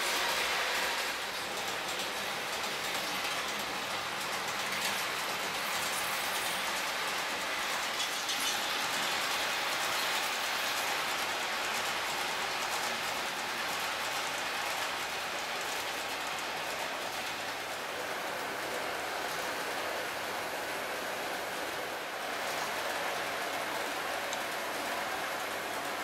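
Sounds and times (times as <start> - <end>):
model train wheels on rails: 0.0 - 26.0.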